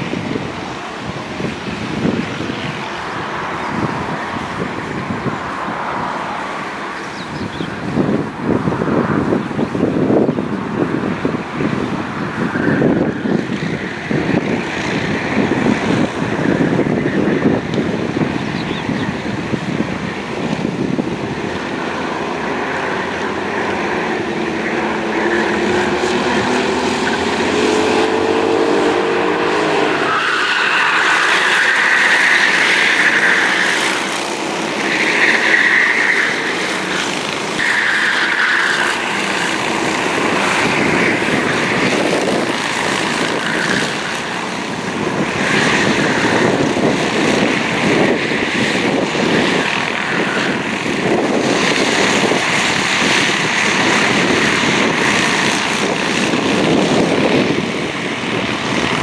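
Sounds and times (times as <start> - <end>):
kart engines at high revs: 0.0 - 59.0
karts passing close by: 0.0 - 59.0.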